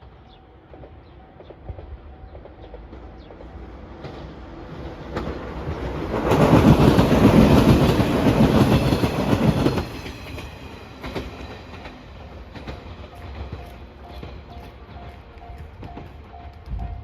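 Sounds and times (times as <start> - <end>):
train passing on rails: 0.0 - 17.0.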